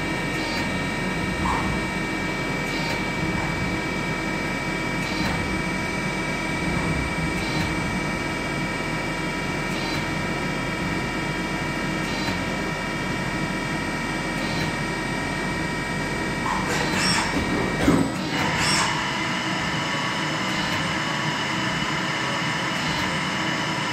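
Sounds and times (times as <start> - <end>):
lathe whine: 0.0 - 23.9
low machine hum: 0.0 - 23.9.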